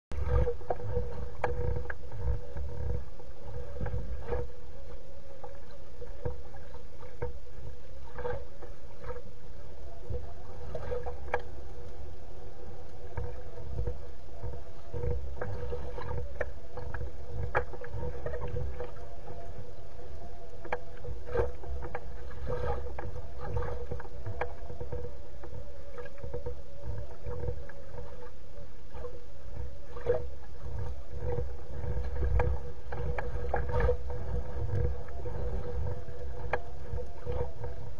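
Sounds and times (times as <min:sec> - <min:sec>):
low wind rumble: 0:00.1 - 0:37.9
water lapping against nest: 0:00.1 - 0:37.9.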